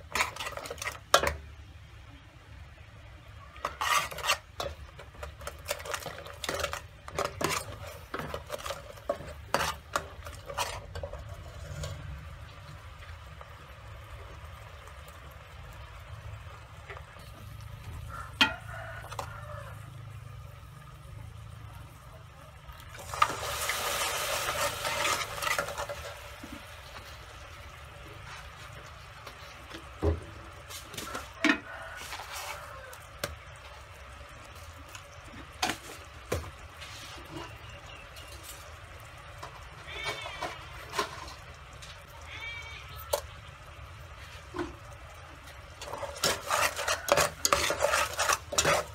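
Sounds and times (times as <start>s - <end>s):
syrup bubbling and sizzling: 0.0s - 48.9s.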